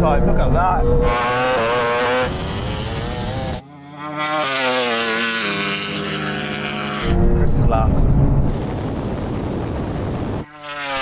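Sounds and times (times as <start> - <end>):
racing engines whining: 0.0 - 9.0.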